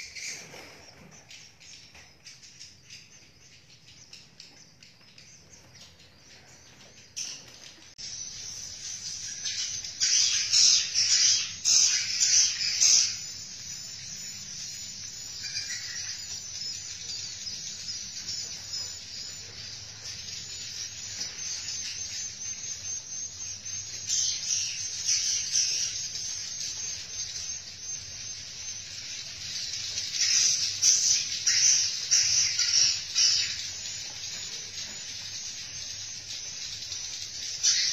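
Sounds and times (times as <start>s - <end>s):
swiftlets chattering twitter: 0.0s - 37.9s.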